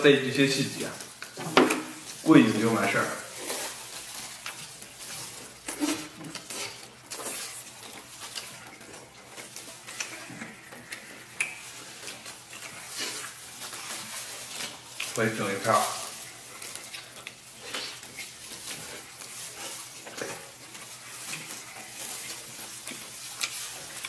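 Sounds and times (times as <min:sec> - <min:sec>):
wet chewing and lip smacking: 0:03.3 - 0:15.2, 0:16.0 - 0:24.0.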